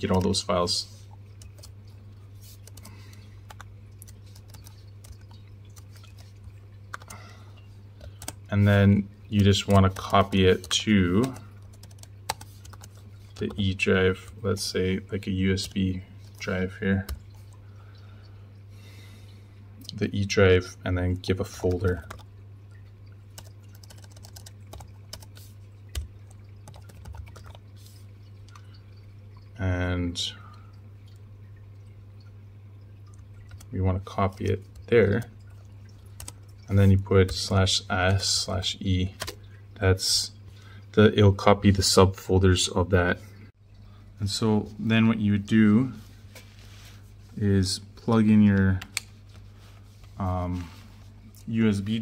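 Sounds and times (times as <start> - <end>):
faint low hum: 0.0 - 52.0.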